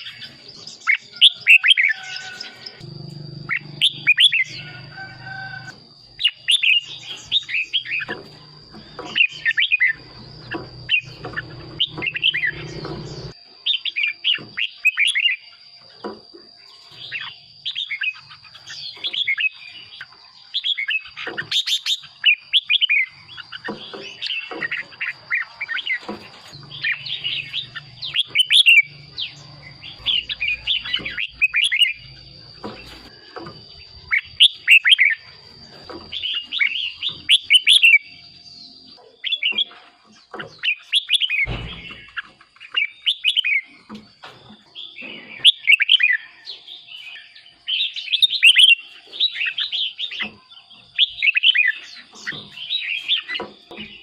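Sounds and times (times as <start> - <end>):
bird singing warbling phrases: 0.0 - 5.0, 5.6 - 54.0.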